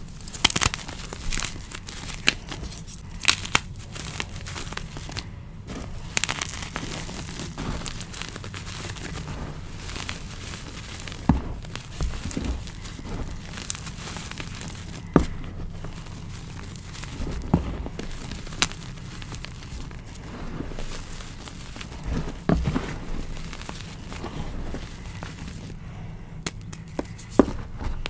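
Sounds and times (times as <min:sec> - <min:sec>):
hard bits cracking: 0:00.0 - 0:25.8
hands crushing chalk: 0:00.0 - 0:28.0.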